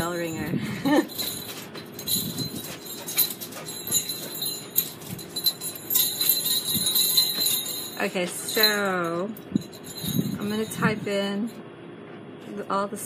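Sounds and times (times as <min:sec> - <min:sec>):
small bells jingling on a cord: 0:00.0 - 0:11.6.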